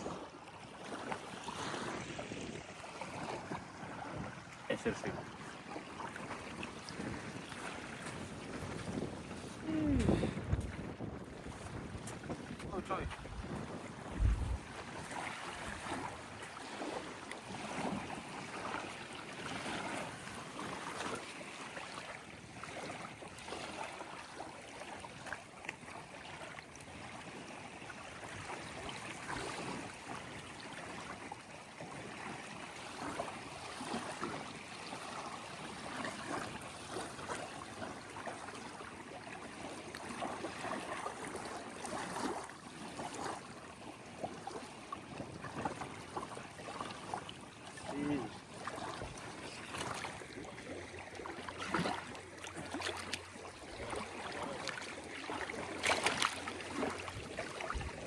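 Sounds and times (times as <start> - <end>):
water lapping and sloshing: 0.0 - 58.0.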